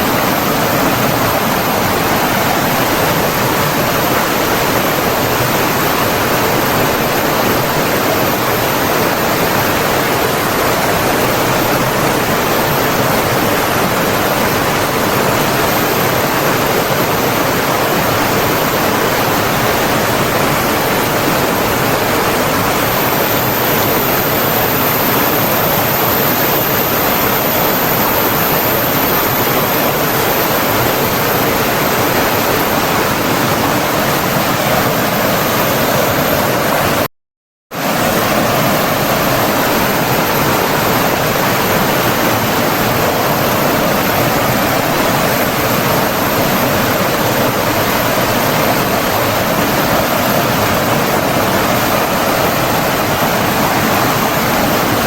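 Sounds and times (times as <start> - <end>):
water rushing steadily: 0.0 - 37.1, 37.8 - 55.0.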